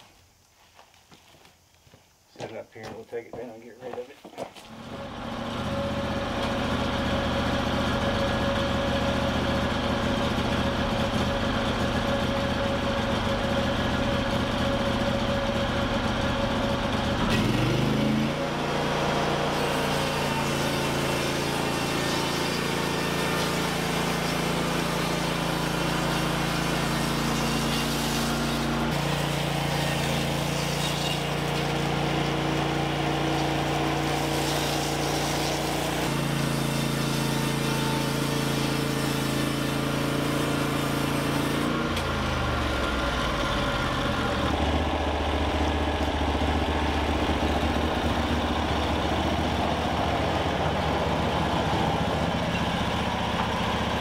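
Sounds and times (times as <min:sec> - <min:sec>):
small gasoline engine idling and revving: 0:04.6 - 0:54.0.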